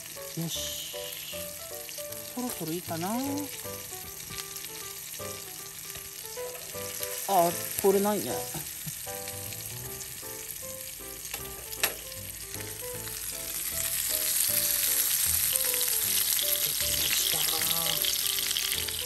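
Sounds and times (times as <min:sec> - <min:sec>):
meat sizzling in a skillet: 0:00.0 - 0:19.0
soft background music: 0:00.0 - 0:19.0.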